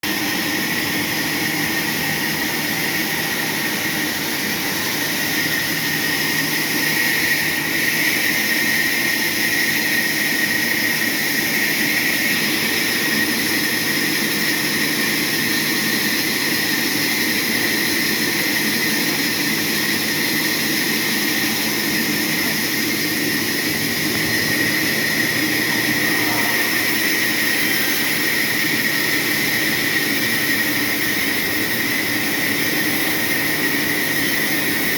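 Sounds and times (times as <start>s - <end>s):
circular saw running: 0.1s - 34.9s.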